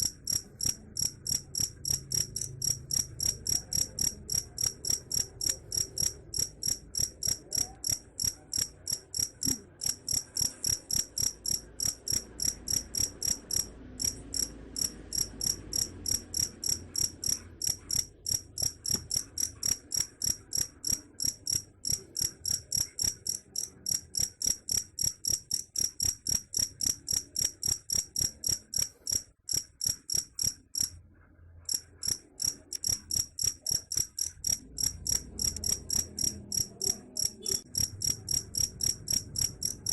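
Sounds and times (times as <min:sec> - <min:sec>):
cricket chirping: 0:00.0 - 0:30.9, 0:31.7 - 0:39.9.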